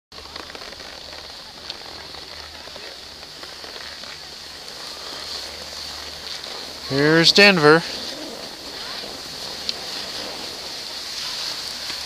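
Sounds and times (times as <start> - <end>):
skis sliding on snow: 0.1 - 12.0
low rumble: 0.2 - 12.0.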